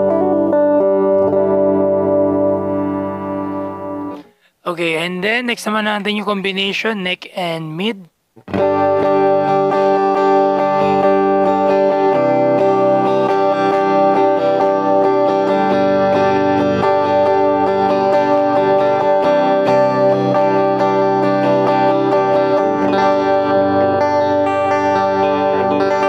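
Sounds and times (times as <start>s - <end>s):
clean electric guitar notes and chords: 0.0s - 4.3s, 8.4s - 26.0s.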